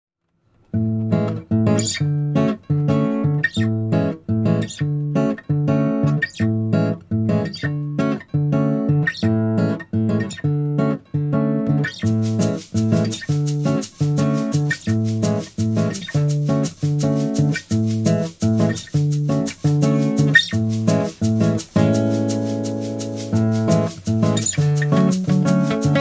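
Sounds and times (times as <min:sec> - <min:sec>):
strummed acoustic guitar: 0:00.7 - 0:26.0.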